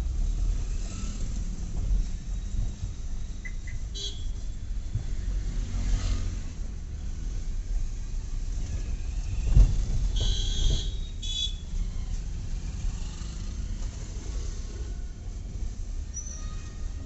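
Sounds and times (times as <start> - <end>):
car rumbling over rough street: 0.0 - 17.0.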